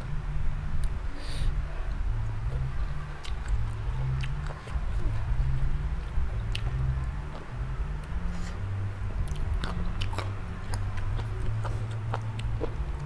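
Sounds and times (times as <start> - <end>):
steady low hum: 0.0 - 13.0
person chewing crunchy salad: 2.4 - 13.0.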